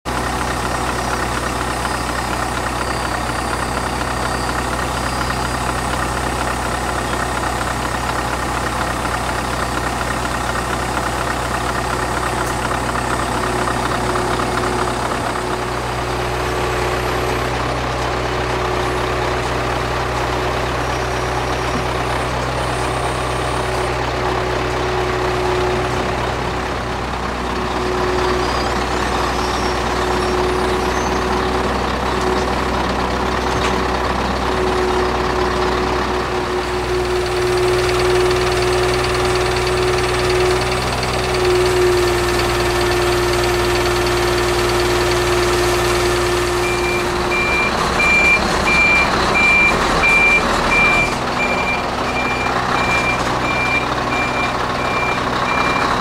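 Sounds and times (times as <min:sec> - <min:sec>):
diesel truck engine at low revs: 0:00.0 - 0:56.0.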